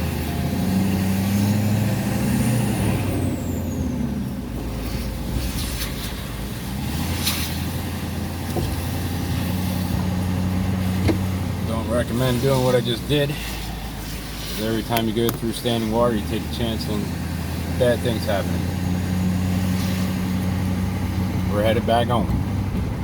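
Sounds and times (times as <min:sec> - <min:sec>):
truck engine running: 0:00.0 - 0:23.0
tyres rushing on wet road: 0:00.0 - 0:23.0.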